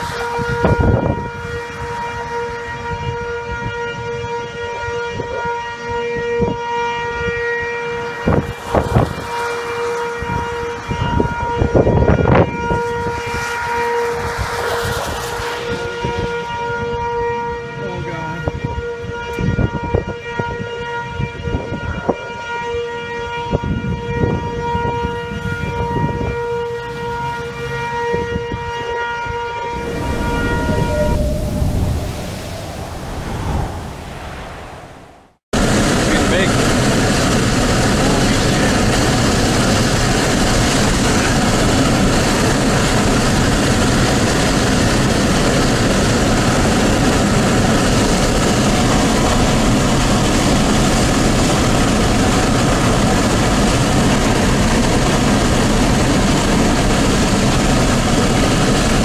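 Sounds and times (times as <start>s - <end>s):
warning siren steady tone: 0.0s - 59.0s
wind buffeting microphone: 0.0s - 59.0s.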